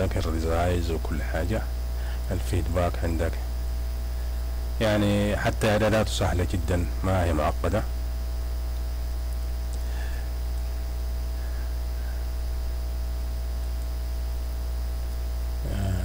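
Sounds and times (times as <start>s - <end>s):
low mains hum: 0.0s - 16.0s.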